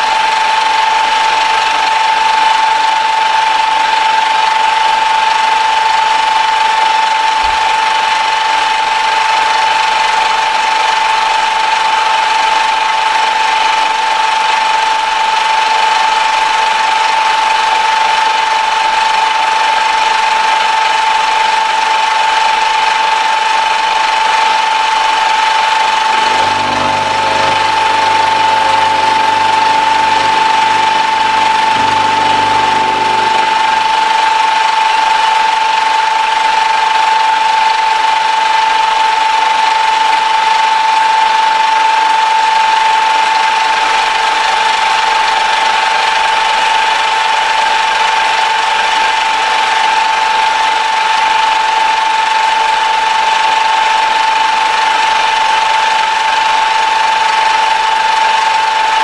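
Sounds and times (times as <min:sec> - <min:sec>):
milling machine whining: 0:00.0 - 0:59.0.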